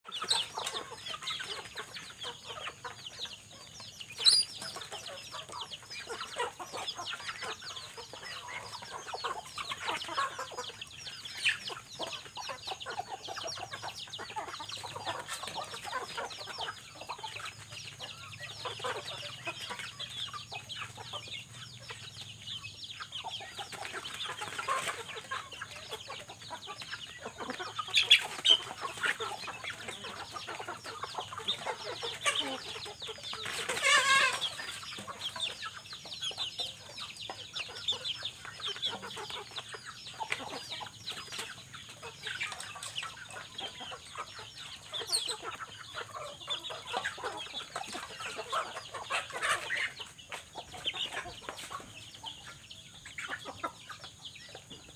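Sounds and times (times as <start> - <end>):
chickens clucking: 0.0 - 54.9
sharp chicken calls: 0.1 - 54.9.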